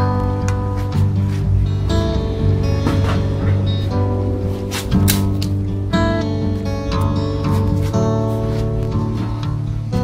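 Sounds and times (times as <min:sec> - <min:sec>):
plucked guitar tune: 0:00.0 - 0:10.0.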